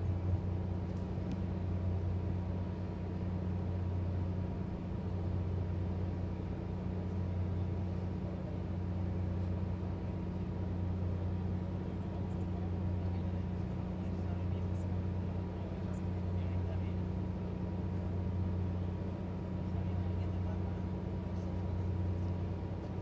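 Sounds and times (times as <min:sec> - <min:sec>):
diesel machinery humming: 0:00.0 - 0:23.0.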